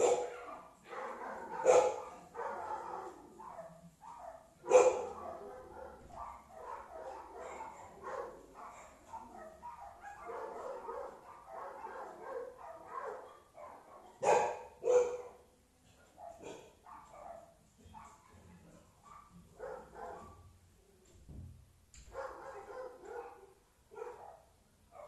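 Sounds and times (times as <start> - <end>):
dog barking: 0.0 - 15.4, 16.2 - 20.5, 22.1 - 25.0.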